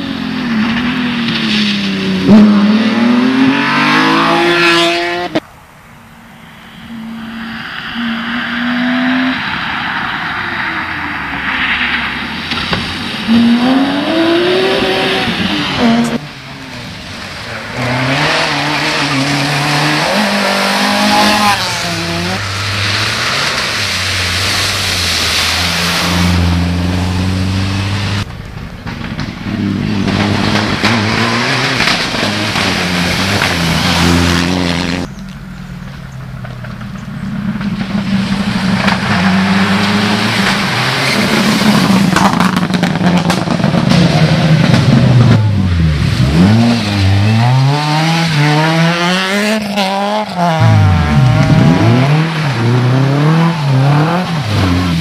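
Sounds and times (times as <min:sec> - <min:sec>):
rally car engines revving: 0:00.0 - 0:05.4, 0:06.3 - 0:55.0
tyre and gravel noise: 0:00.0 - 0:55.0.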